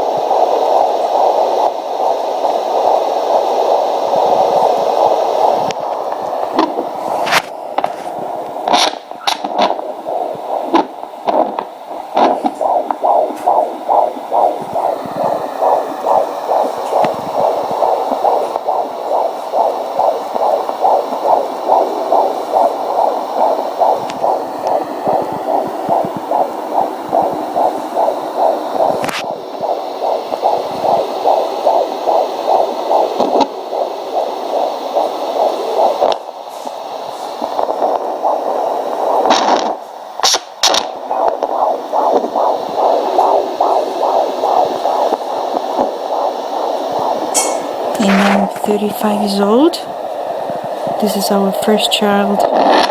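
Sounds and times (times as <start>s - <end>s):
fast fetal heartbeat pulse: 0.0s - 52.9s.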